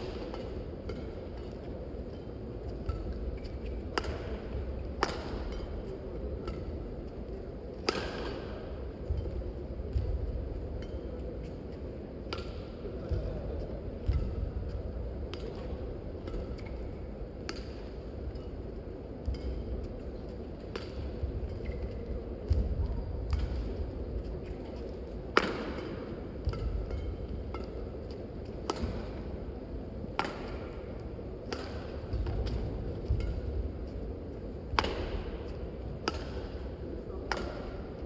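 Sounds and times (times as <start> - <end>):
low background hum: 0.0 - 38.0
rackets striking shuttlecock: 0.0 - 38.0.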